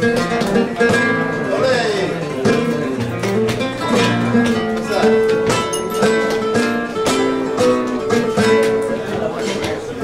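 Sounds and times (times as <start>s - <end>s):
flamenco guitar playing: 0.0s - 10.0s.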